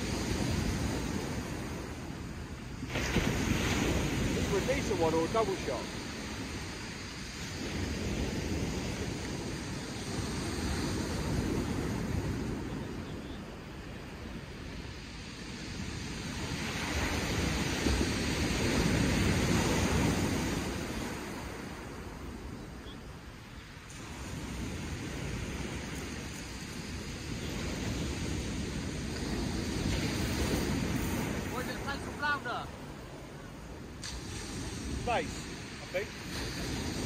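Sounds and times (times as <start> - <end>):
surf breaking on shingle beach: 0.0 - 13.0, 14.1 - 22.6, 23.6 - 37.0
wind buffeting microphone: 0.0 - 37.0.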